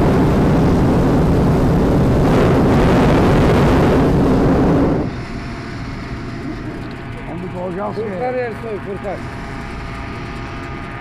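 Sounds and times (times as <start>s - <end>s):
propane burner blast: 0.0s - 11.0s.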